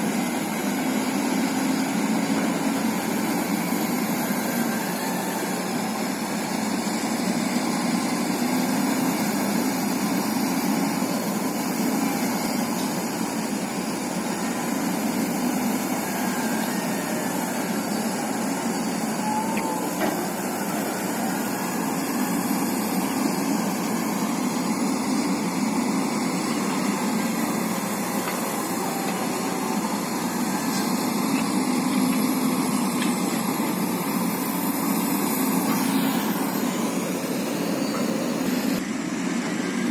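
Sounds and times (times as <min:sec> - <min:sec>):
diesel excavator engine running: 0:00.0 - 0:39.9.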